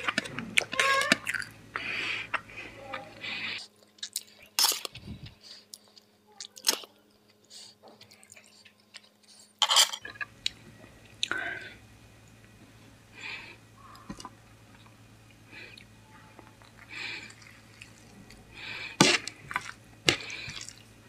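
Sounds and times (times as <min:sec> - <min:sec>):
chewing and wet mouth sounds: 0:00.0 - 0:11.5, 0:13.9 - 0:21.0.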